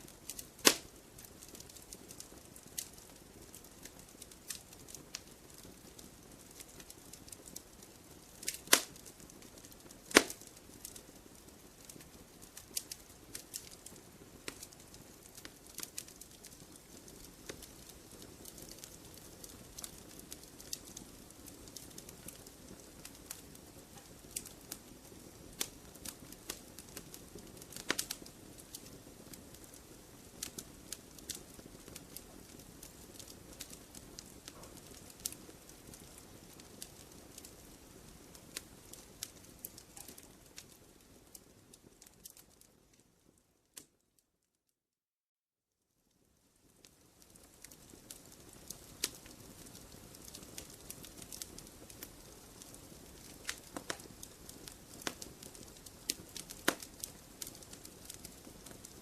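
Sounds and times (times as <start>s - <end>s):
wood fire crackling and popping: 0.0s - 44.0s, 46.1s - 59.0s.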